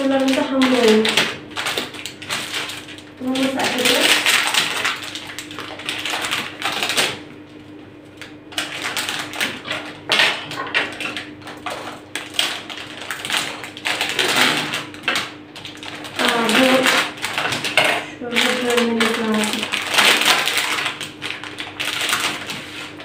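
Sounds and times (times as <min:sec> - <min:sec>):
plastic packaging crinkling: 0:00.0 - 0:23.0
steady low hum: 0:00.0 - 0:23.0.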